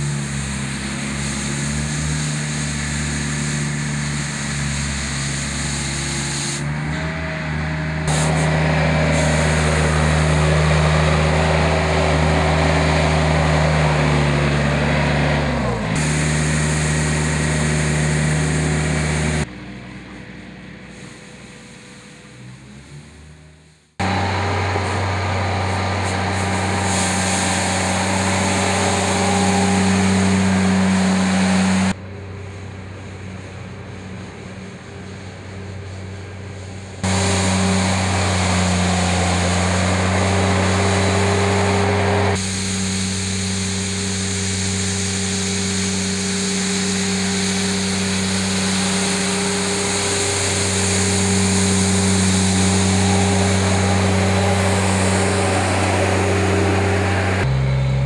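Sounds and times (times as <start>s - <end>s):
rotary broom sweeping snow: 0.0s - 19.5s, 24.0s - 57.5s
loader engine droning: 0.0s - 58.0s.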